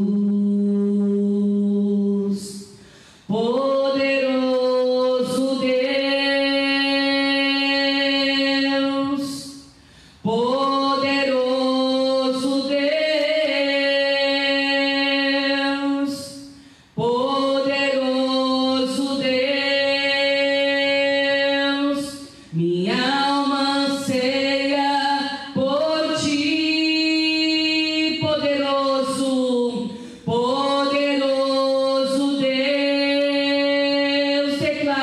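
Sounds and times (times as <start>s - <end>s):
woman singing into a microphone: 0.0s - 35.0s.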